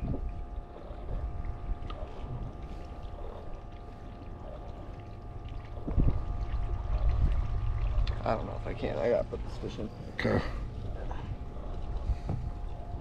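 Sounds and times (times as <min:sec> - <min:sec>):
boat engine hum: 0:00.0 - 0:13.0.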